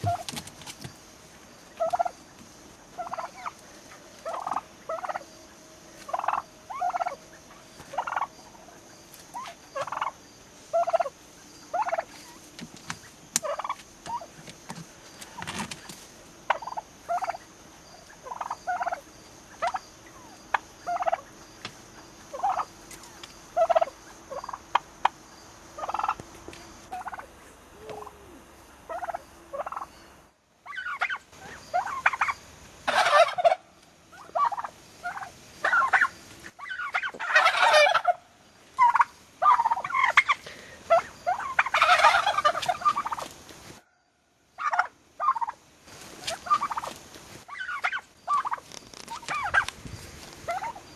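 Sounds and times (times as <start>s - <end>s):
turkeys calling: 0.0s - 25.2s, 25.8s - 43.9s, 44.6s - 50.9s.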